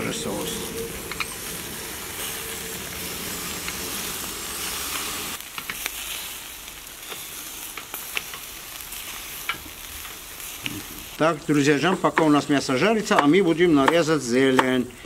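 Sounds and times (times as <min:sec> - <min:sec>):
meat sizzling over charcoal: 0:00.0 - 0:14.4
fat crackling on coals: 0:00.0 - 0:15.0.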